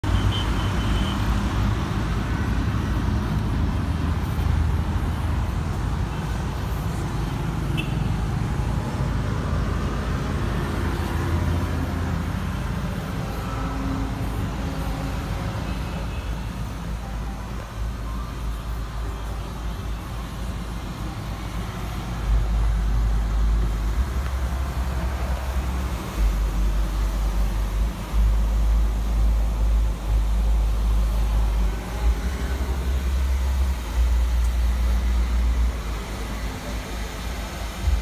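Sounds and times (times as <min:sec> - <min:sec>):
road traffic: 0:00.0 - 0:38.0
vehicle engine rumble: 0:00.0 - 0:38.0.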